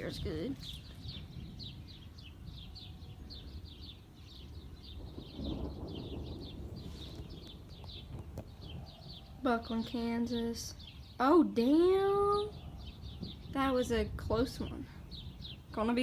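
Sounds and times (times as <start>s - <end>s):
birds chirping: 0.0s - 16.0s
low wind rumble: 0.0s - 16.0s.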